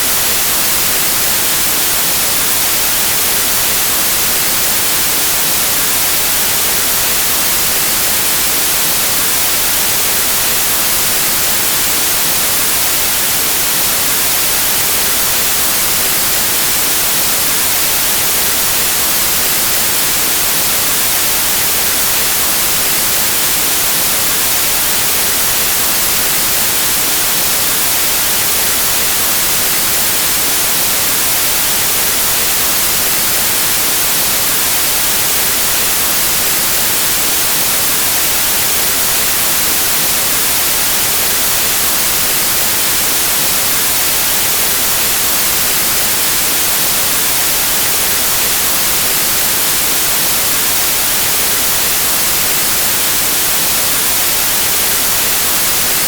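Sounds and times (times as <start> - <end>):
white noise static hiss: 0.0 - 56.0.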